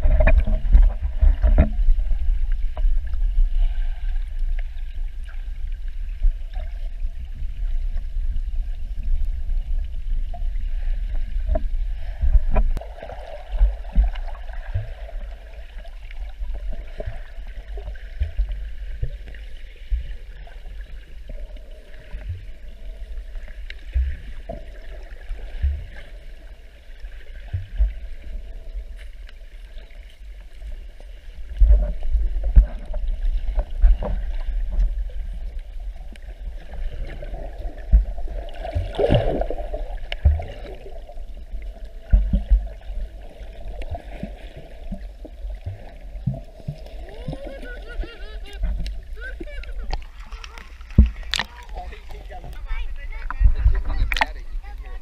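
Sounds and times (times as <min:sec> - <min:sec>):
muffled underwater rumble: 0:00.0 - 0:55.0
rush of water: 0:00.0 - 0:55.0.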